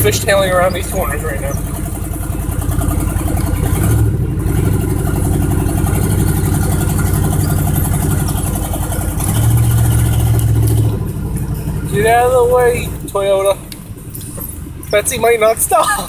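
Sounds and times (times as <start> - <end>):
pickup truck engine droning: 0.0 - 16.0.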